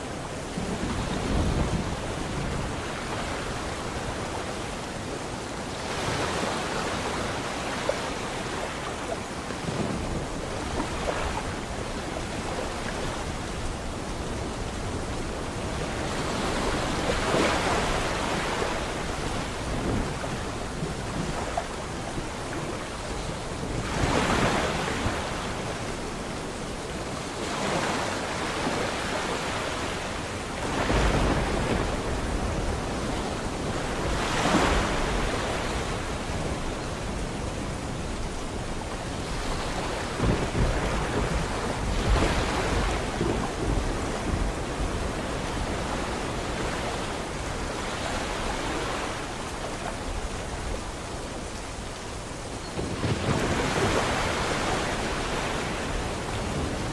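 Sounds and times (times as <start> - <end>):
sea waves breaking: 0.0 - 56.9.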